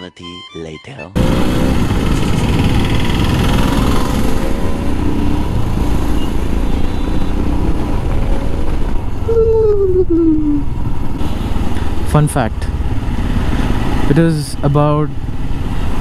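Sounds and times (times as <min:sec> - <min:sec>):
motorcycle engine accelerating: 0:01.2 - 0:16.0.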